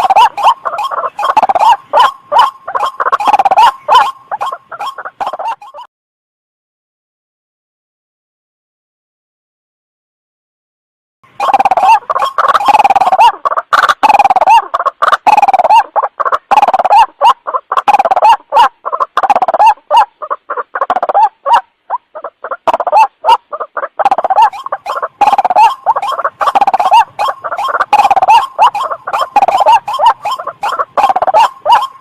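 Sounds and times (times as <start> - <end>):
waterhen croaking calls: 0.0 - 5.9, 11.3 - 32.0.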